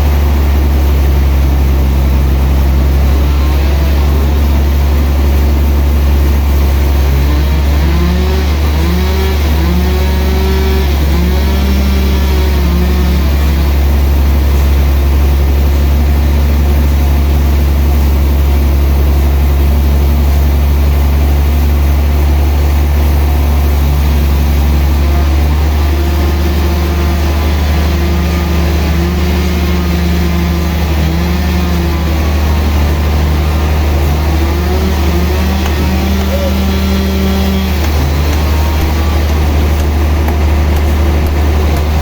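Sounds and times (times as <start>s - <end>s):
sawmill engine humming: 0.0s - 42.0s.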